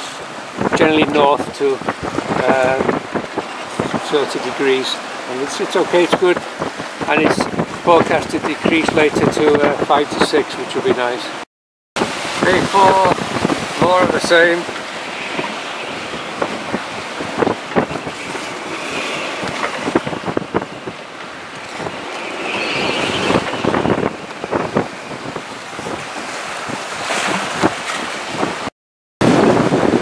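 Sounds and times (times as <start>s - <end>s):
rough sea breaking: 0.0s - 11.4s, 12.0s - 30.0s
wind buffeting microphone: 0.2s - 10.5s, 12.0s - 30.0s.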